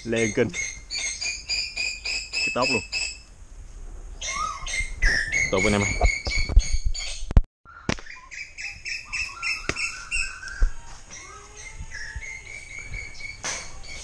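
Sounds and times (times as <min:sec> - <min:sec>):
birds chirping and calling: 0:00.0 - 0:03.3, 0:04.1 - 0:14.0.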